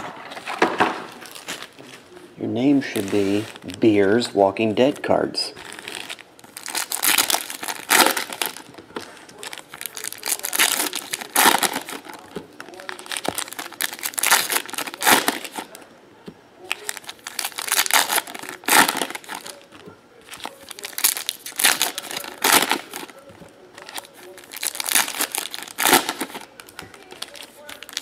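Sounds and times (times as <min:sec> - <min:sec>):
foil wrappers crinkling and tearing: 0:01.2 - 0:02.0, 0:02.8 - 0:04.2, 0:04.8 - 0:15.8, 0:16.6 - 0:28.0.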